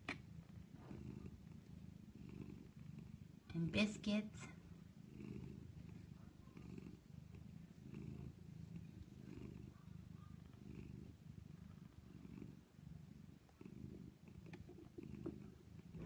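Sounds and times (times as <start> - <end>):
cat purring softly: 0.0 - 16.0.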